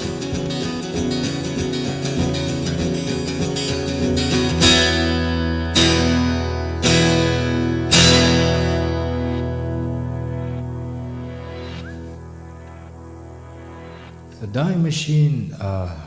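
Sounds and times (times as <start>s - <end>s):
acoustic guitar strumming: 0.0s - 15.3s.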